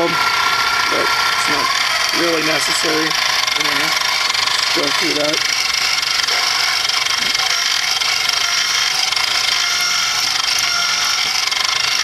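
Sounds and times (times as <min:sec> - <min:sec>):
milling machine whine: 0:00.0 - 0:12.0.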